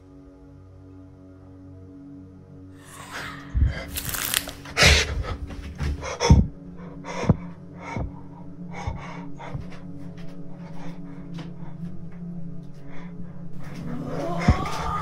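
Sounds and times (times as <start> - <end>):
heavy breathing: 2.8 - 14.9.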